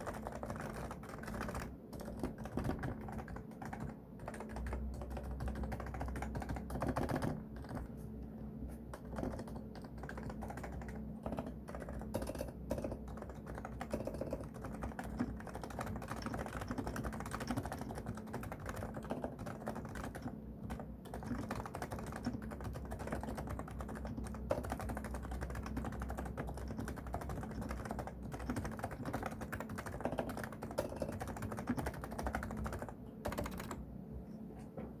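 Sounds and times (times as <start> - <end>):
fast typing on a keyboard: 0.0 - 7.9, 8.9 - 33.8.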